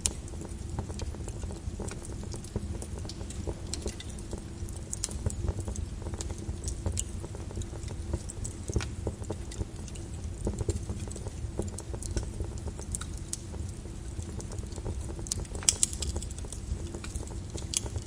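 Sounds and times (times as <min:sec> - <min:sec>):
lava crackling: 0:00.0 - 0:18.0.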